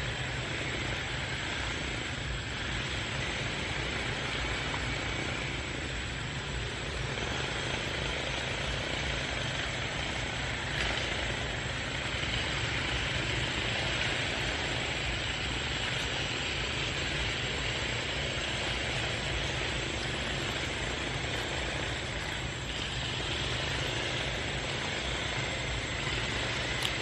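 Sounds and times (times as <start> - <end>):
even hiss: 0.0 - 27.0.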